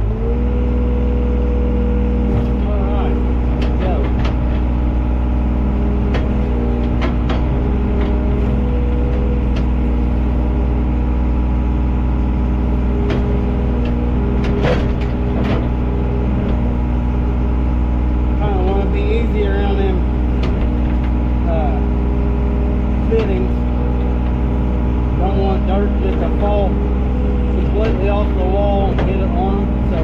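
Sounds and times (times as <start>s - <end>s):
heavy machine engine idling: 0.0s - 30.0s
knocks and clanks: 2.2s - 30.0s.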